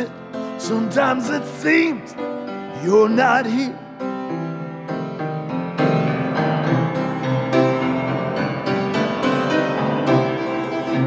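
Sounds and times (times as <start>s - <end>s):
blues piano chords: 0.0s - 11.0s.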